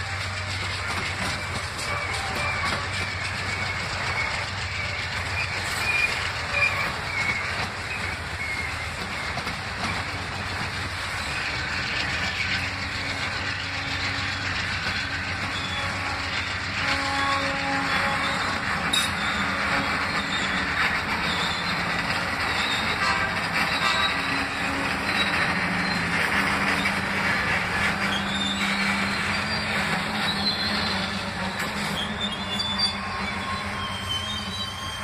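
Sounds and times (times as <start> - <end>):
train wheels clattering over rail joints: 0.0 - 35.0
wavering high squeal: 0.2 - 35.0.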